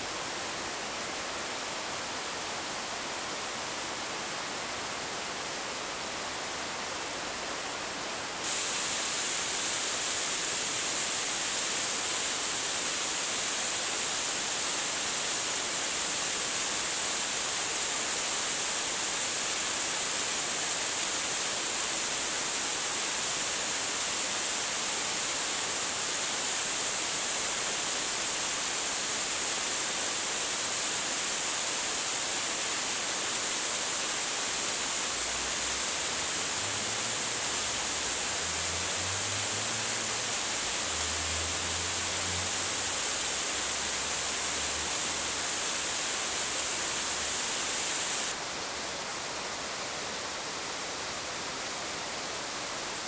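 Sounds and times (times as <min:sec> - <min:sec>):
waterfall splashing: 0:07.9 - 0:53.0.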